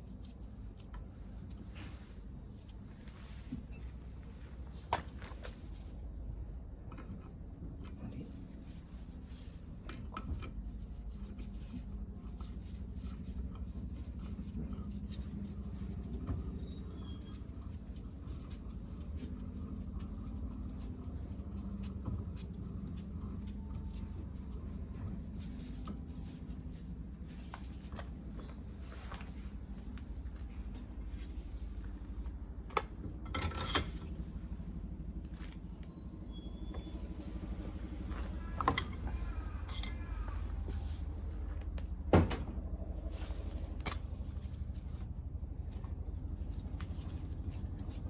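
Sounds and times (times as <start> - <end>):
low background hum: 0.0 - 48.0.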